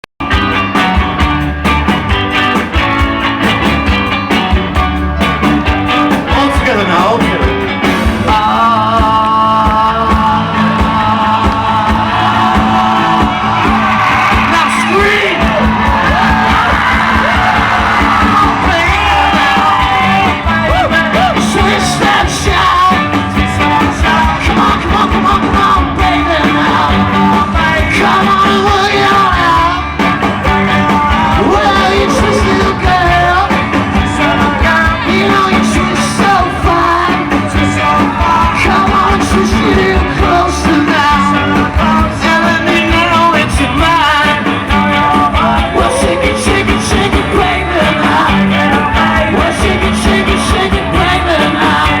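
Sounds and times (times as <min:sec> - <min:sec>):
rock band playing live: 0:00.2 - 0:52.0
steady drum beat: 0:00.2 - 0:52.0
lead singer singing: 0:05.2 - 0:52.0.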